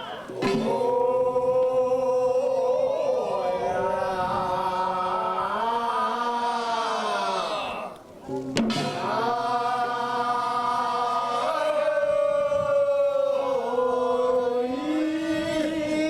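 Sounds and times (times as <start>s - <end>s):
person chanting a folk song: 0.0s - 16.0s.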